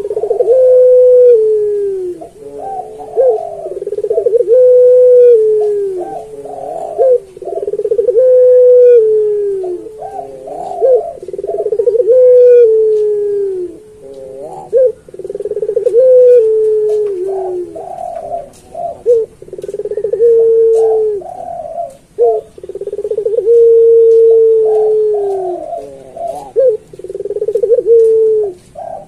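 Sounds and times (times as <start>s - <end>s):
dove cooing: 0.0s - 29.0s.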